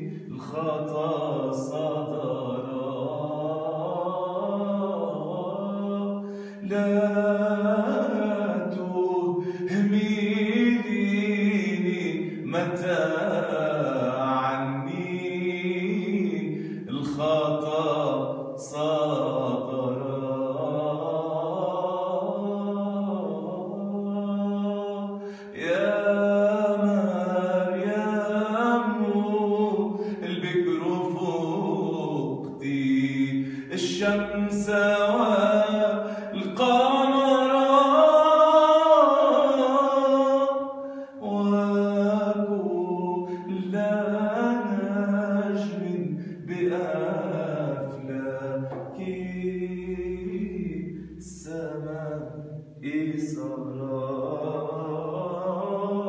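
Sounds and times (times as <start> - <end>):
man singing unaccompanied: 0.0 - 56.0.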